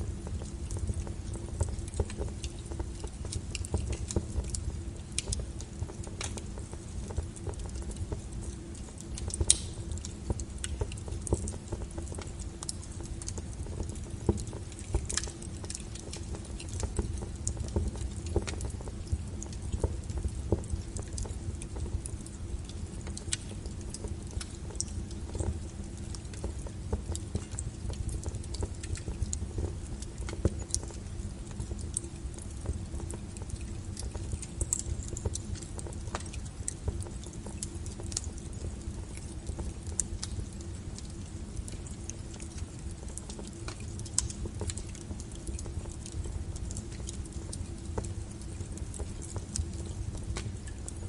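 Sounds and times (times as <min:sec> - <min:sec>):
firewood crackling and popping: 0:00.0 - 0:51.0
low rumble of fire: 0:00.0 - 0:51.0.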